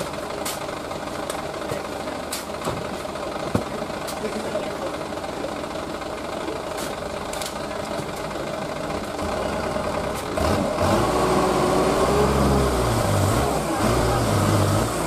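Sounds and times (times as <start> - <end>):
diesel truck engine idling and revving: 0.0 - 15.0.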